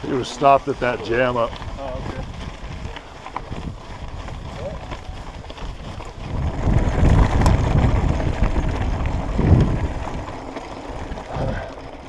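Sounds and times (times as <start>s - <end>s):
tyres rolling over rocky trail: 0.0s - 12.0s
wind buffeting microphone: 0.0s - 12.0s.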